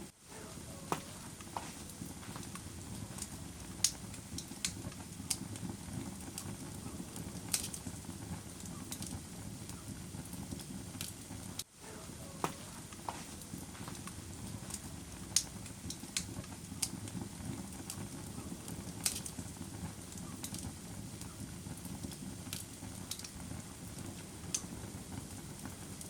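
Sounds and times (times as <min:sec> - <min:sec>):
low rumble of flames: 0:00.0 - 0:26.0
sharp fire pops: 0:00.9 - 0:11.6, 0:12.4 - 0:26.0.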